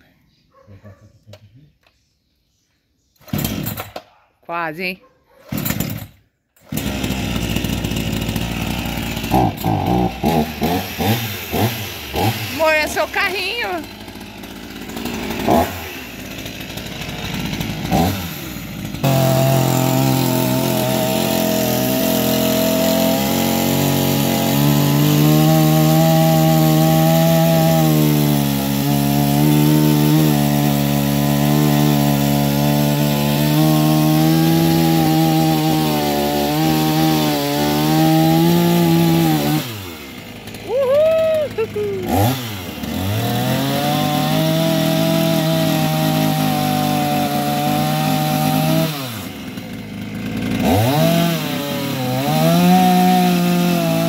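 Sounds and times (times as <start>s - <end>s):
chainsaw cutting wood: 3.2s - 54.0s.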